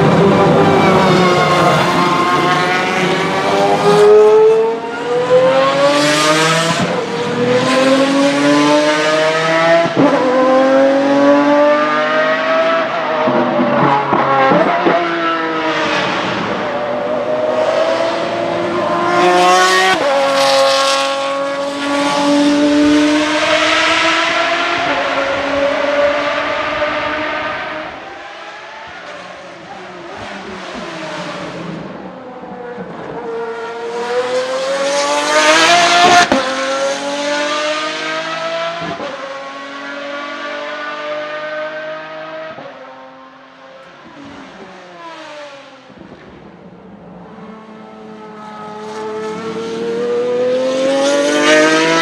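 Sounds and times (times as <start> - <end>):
car engine accelerating hard: 0.0 - 42.8, 47.3 - 52.0.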